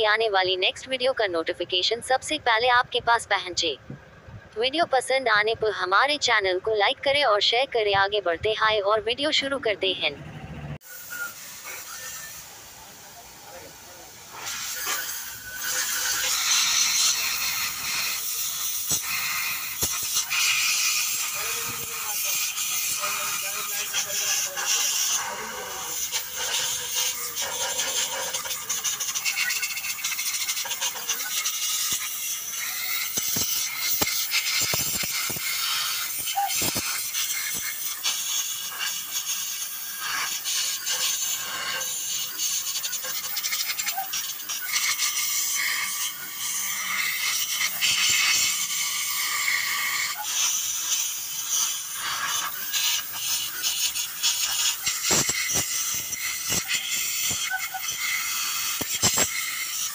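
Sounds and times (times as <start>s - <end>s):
steady hiss: 10.8s - 59.9s.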